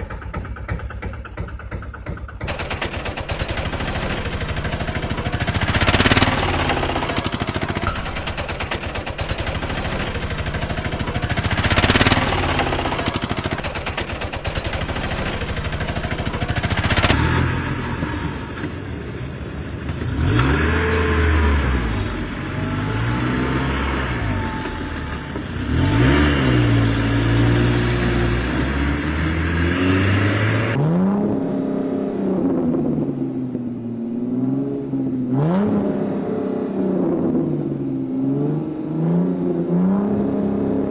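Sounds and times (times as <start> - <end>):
engine revving: 0.0 - 18.8, 19.9 - 40.9.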